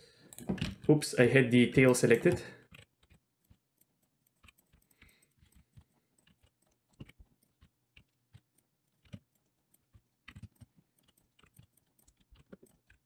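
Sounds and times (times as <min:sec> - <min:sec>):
computer keyboard and mouse clicks: 0:01.8 - 0:13.0.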